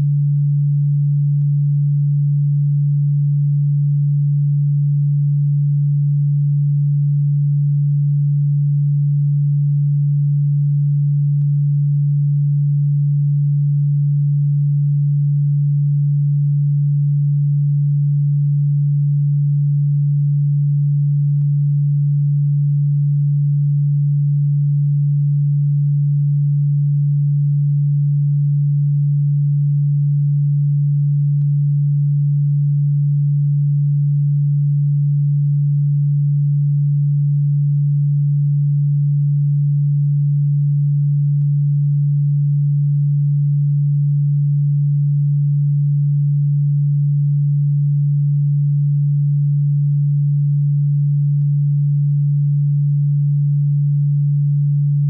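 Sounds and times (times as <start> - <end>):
low electronic sine tone: 0.0 - 55.0.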